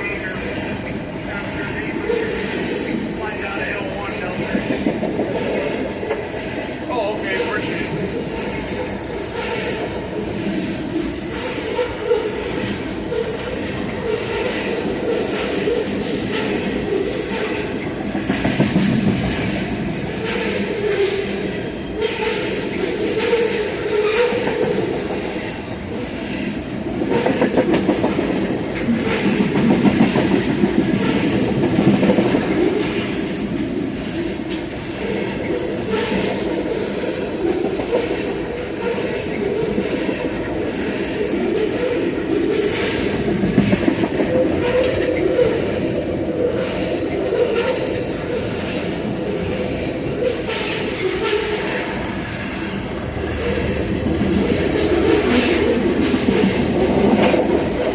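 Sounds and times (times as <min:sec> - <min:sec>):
rail clacks: 0:00.0 - 0:57.9
train wheels rumbling on rail: 0:00.0 - 0:57.9.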